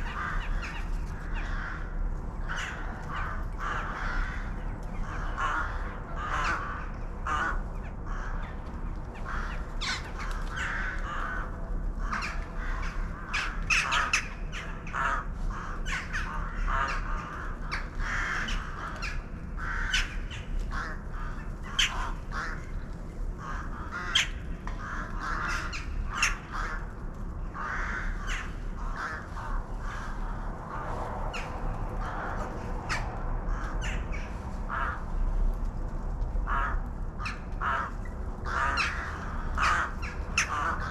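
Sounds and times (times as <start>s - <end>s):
flock of birds calling: 0.0s - 35.2s, 36.4s - 40.9s.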